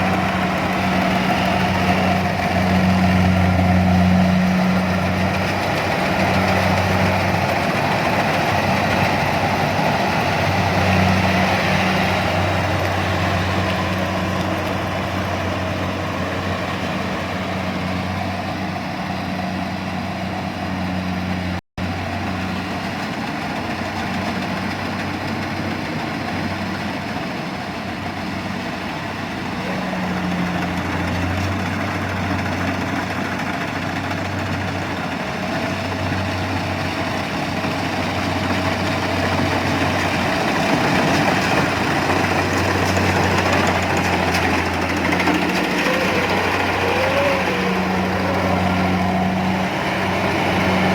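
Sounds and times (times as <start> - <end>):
farm machinery engine running: 0.0 - 50.9.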